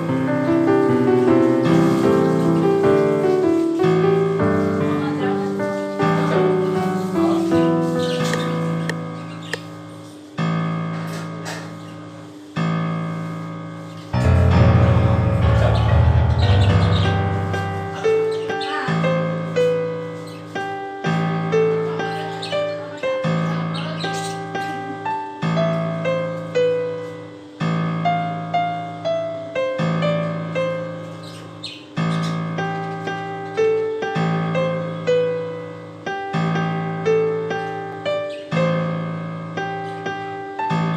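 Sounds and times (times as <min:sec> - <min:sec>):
keyboard chords: 0:00.0 - 0:40.9
slow piano melody: 0:00.0 - 0:40.9.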